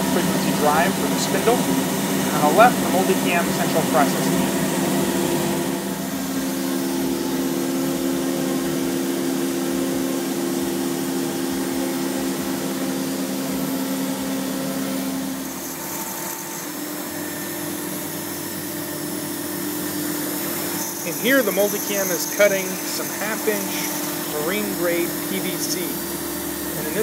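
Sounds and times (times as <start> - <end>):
cnc router machine drone: 0.0 - 27.0.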